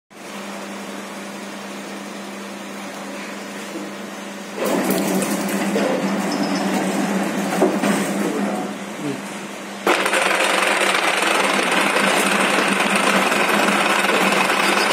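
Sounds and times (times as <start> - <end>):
milling machine humming: 0.2 - 14.9.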